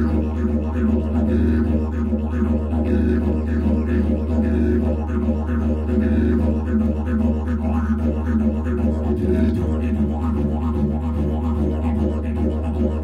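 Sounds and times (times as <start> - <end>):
didgeridoo drone: 0.0 - 13.0.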